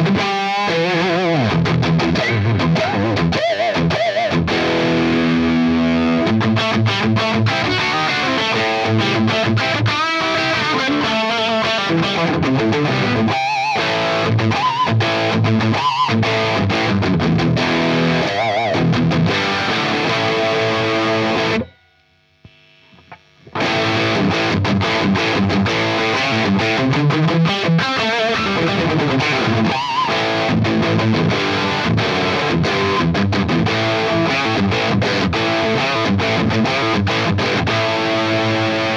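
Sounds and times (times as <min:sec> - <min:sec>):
overdriven electric guitar: 0:00.0 - 0:38.9.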